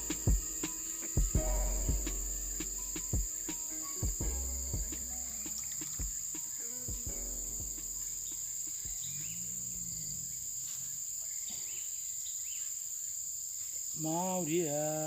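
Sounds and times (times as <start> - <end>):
insect chorus trilling: 0.0 - 15.0.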